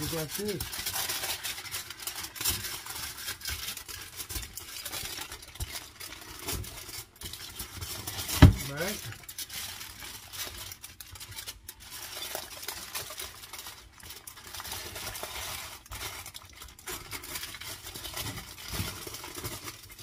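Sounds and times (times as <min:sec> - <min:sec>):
aluminium foil crinkling: 0:00.0 - 0:20.0.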